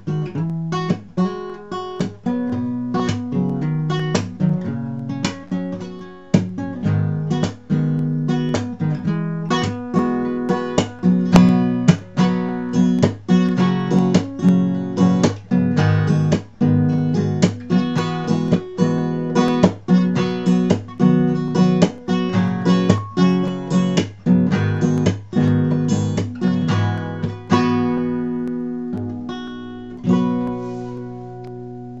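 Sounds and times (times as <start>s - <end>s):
fingerpicked acoustic guitar: 0.0s - 32.0s.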